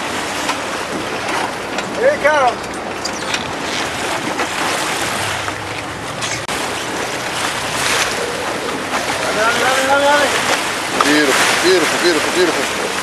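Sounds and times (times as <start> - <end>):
faint boat engine hum: 0.0 - 13.0
sea water rushing: 0.0 - 13.0
wind: 0.0 - 13.0.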